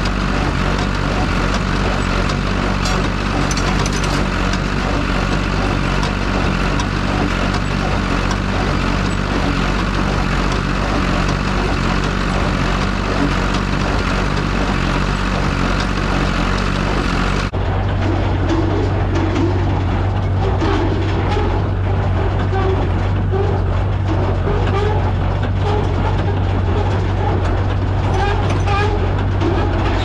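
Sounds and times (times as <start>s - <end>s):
square baler working: 0.0s - 30.0s
tractor engine running under load: 0.0s - 30.0s.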